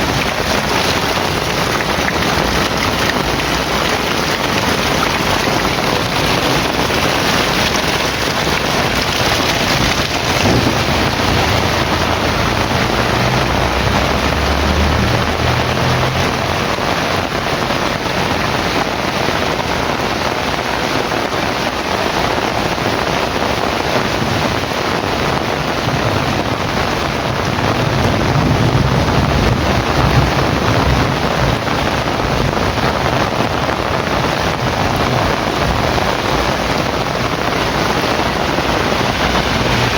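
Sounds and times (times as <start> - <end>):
low thunder rumbling: 0.0 - 20.1, 24.2 - 39.9
heavy rain pouring: 0.0 - 39.9.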